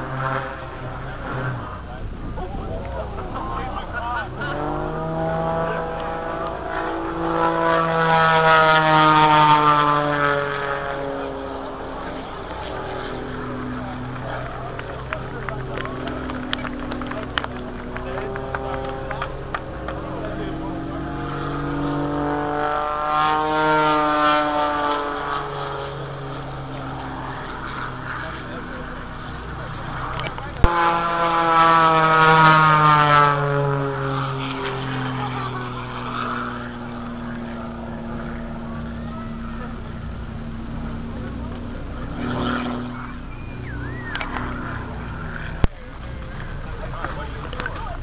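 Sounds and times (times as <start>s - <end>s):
propeller plane engine diving: 0.0s - 48.0s.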